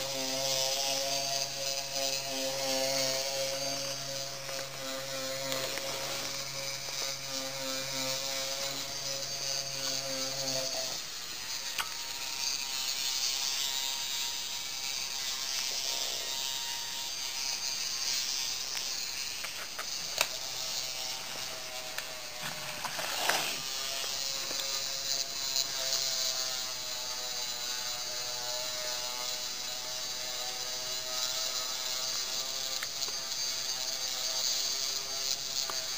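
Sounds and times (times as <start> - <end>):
small motor running: 0.0 - 35.9.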